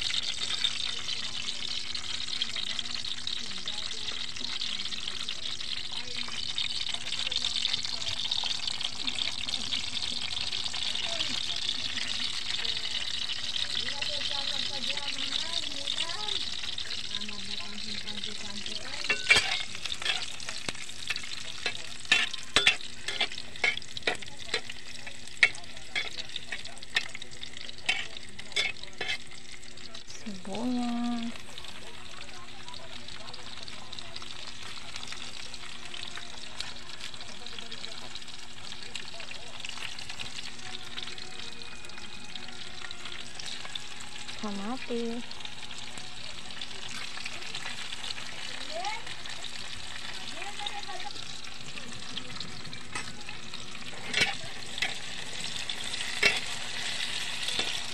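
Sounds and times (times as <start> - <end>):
garlic sizzling in oil: 0.0 - 57.9.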